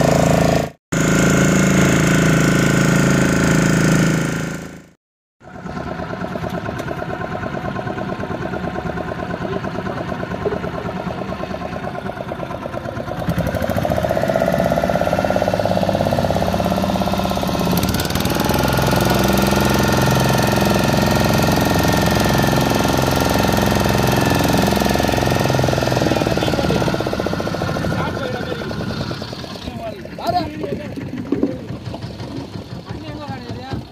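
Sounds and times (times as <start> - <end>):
boat engine knocking: 5.5 - 33.9.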